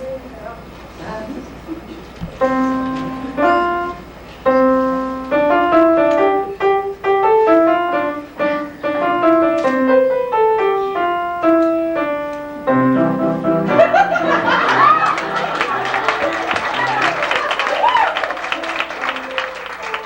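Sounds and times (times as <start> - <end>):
piano playing a tune: 2.3 - 20.0.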